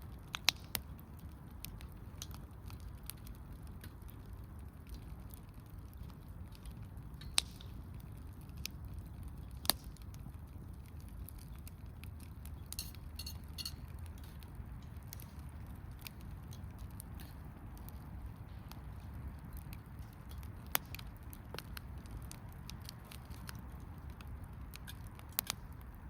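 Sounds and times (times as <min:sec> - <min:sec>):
wood fire crackling: 0:00.0 - 0:26.0
sharp fire pops: 0:00.1 - 0:26.0.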